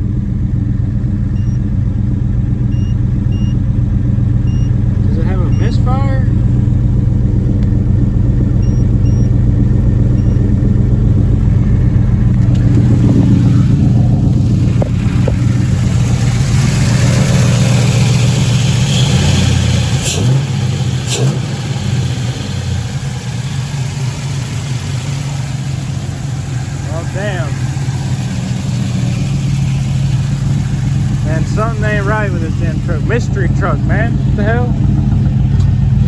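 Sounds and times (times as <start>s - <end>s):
engine running rough: 0.0s - 36.0s.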